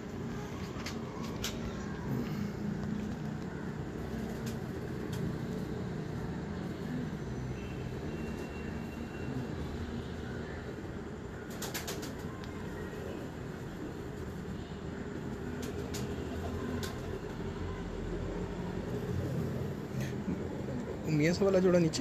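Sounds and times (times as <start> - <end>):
pigeons cooing: 0.3 - 21.8.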